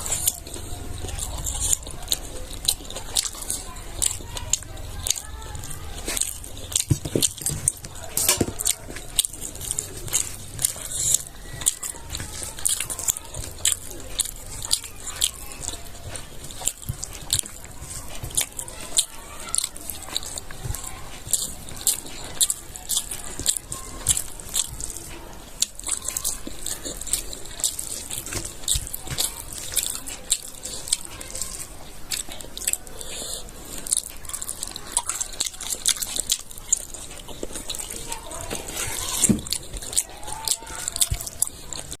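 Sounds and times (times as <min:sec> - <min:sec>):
wet chewing and lip smacking: 0:00.0 - 0:42.0.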